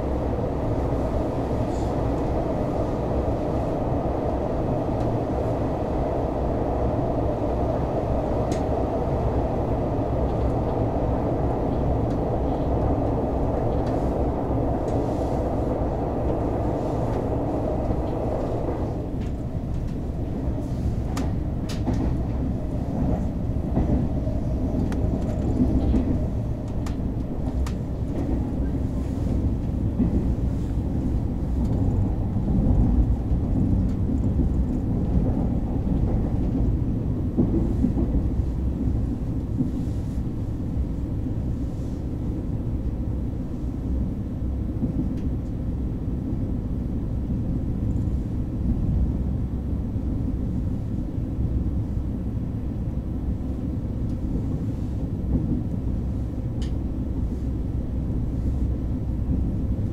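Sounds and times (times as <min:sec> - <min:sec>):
train rumble inside carriage: 0:00.0 - 0:59.9.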